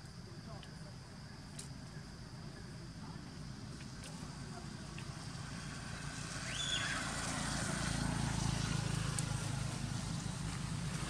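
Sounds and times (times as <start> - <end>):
vehicle engine rumble: 1.7 - 11.0.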